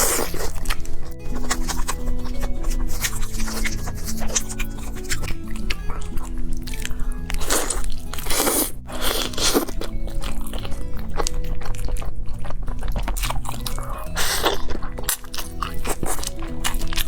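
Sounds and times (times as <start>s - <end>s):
background music: 0.0s - 17.0s
chewing: 0.0s - 17.0s.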